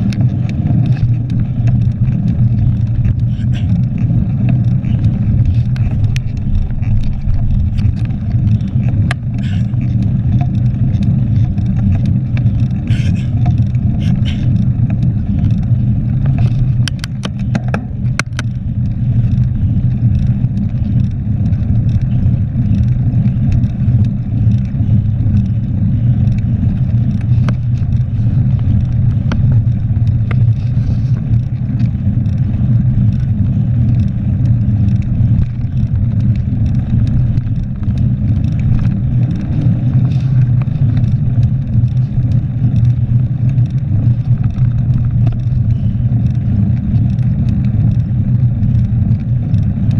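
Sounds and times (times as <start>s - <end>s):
wind and road rumble: 0.0s - 49.9s.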